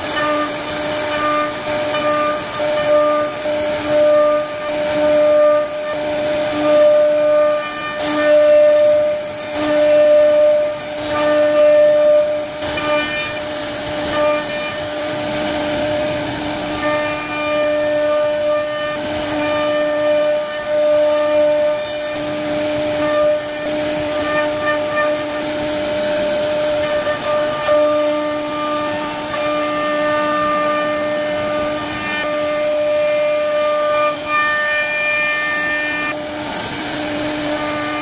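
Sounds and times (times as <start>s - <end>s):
bit cutting wood hiss: 0.0s - 38.0s
router spindle whining: 0.0s - 38.0s.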